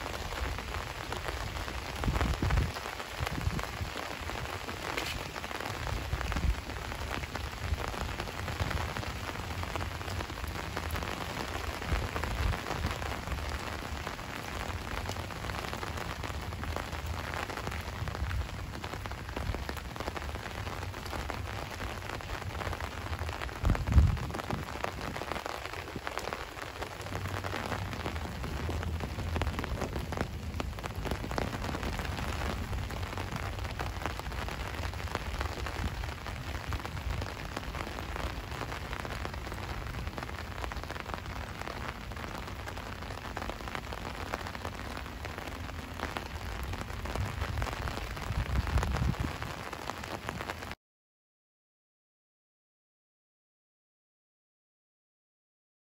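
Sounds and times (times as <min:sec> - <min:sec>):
rain pattering: 0:00.0 - 0:50.8.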